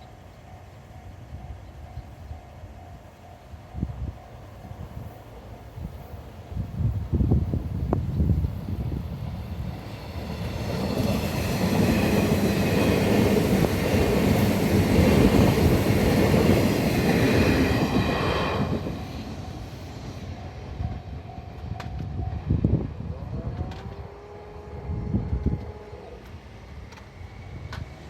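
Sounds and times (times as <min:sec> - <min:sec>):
electric train passing: 0:00.0 - 0:28.0.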